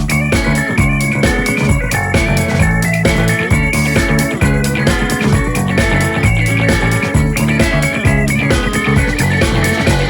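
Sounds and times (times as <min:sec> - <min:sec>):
rock music with guitar and beat: 0:00.0 - 0:10.0.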